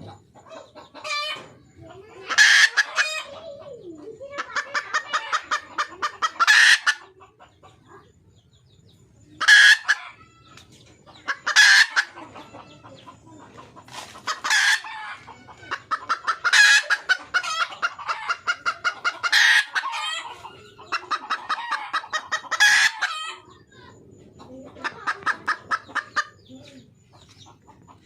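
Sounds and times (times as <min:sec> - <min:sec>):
rapid clucks: 0:00.0 - 0:28.0.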